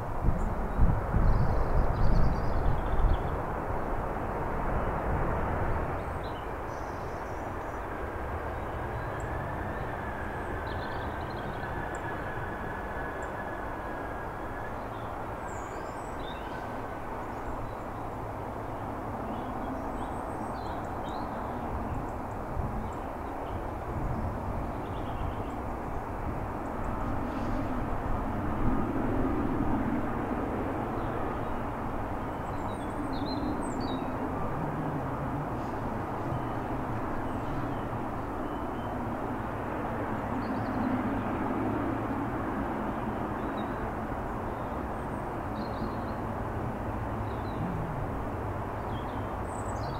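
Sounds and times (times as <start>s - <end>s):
distant jet engine noise: 0.0s - 49.9s.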